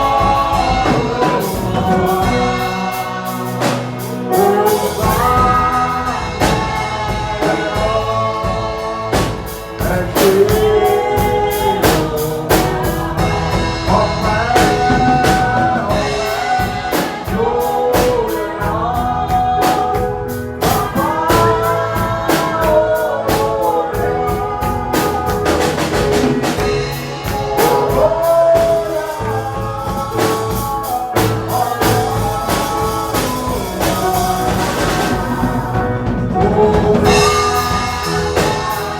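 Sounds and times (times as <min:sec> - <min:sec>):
band playing: 0:00.0 - 0:38.9
gospel singing: 0:00.0 - 0:38.9.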